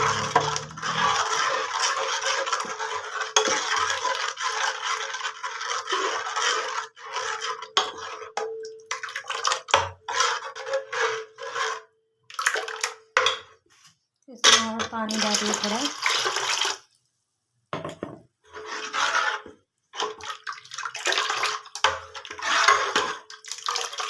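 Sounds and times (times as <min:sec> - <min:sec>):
utensil stirring and scraping in a bowl: 0:00.0 - 0:16.8, 0:18.4 - 0:24.0.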